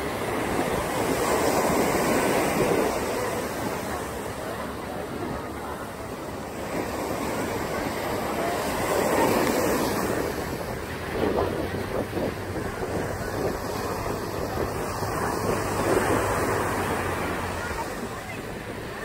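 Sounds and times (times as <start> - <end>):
small surf breaking on sand: 0.0 - 19.0
wind on microphone: 0.0 - 19.0.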